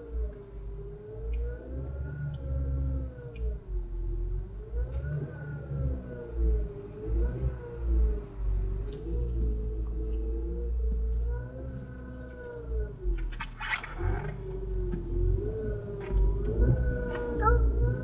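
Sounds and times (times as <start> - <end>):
car engine rumbling: 0.0 - 18.0
wavering engine whine: 0.0 - 18.0.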